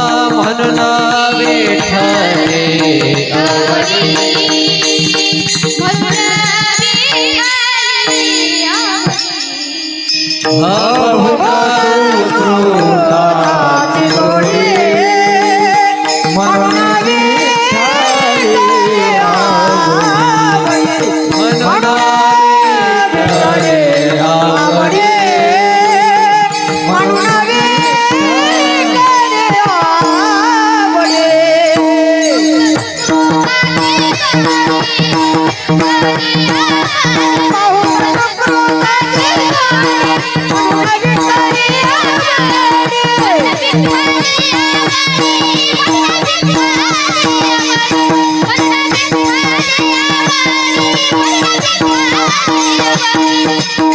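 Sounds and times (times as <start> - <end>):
drum strokes: 0.0 - 53.9
metallic jingle: 0.0 - 53.9
woman singing wordless melody: 0.0 - 53.9.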